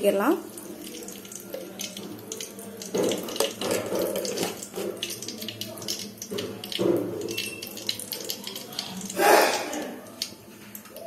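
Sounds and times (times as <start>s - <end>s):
oil sizzling in a pan: 0.0s - 11.0s
oil popping: 0.4s - 11.0s.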